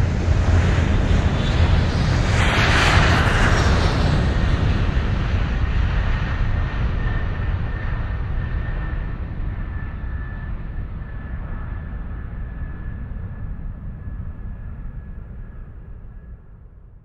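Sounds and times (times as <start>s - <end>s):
aircraft rumbling past: 0.0s - 16.3s
faint engine whine: 0.0s - 17.0s.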